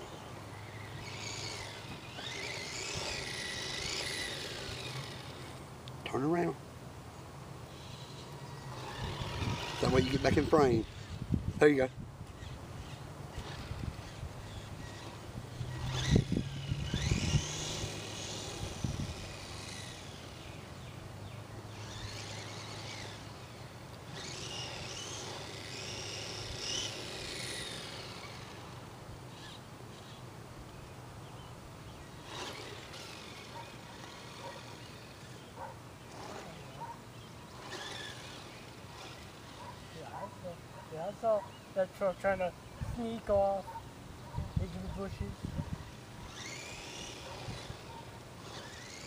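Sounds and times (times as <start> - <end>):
electric rc truck whining: 0.0 - 6.6, 7.6 - 49.0.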